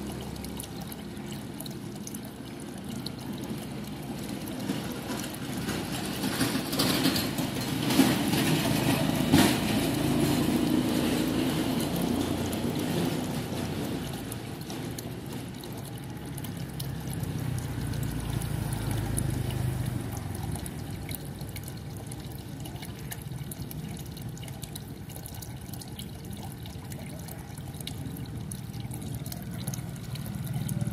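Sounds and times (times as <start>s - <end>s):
small splashes and clicks: 0.0s - 30.9s
water trickling into pond: 0.0s - 30.9s.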